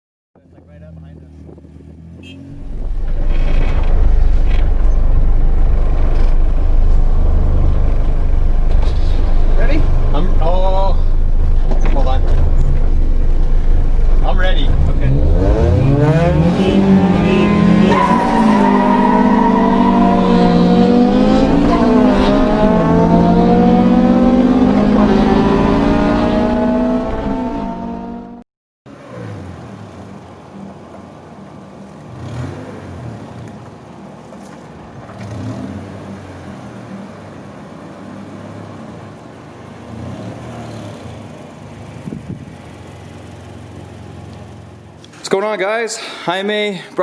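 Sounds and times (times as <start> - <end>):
car engine rumbling: 0.4 - 45.2.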